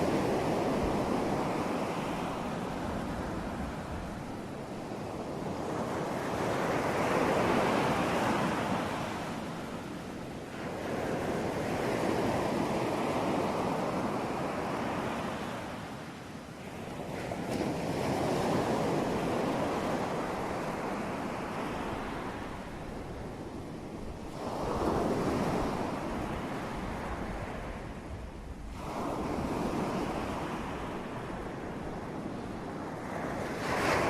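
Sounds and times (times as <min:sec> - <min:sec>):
waves breaking and washing in: 0:00.0 - 0:34.0.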